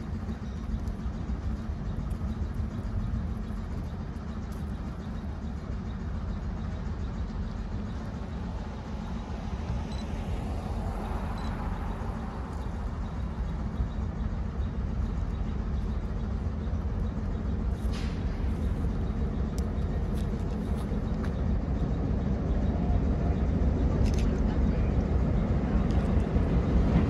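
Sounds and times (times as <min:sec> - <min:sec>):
diesel locomotive rumbling: 0:00.0 - 0:27.0.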